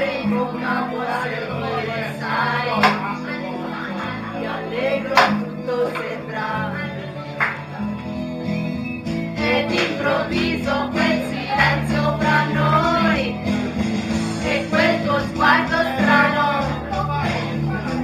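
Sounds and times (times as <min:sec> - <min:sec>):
person singing through microphone: 0:00.0 - 0:07.7, 0:09.4 - 0:13.6, 0:14.3 - 0:18.0
amplified backing music: 0:00.0 - 0:18.0.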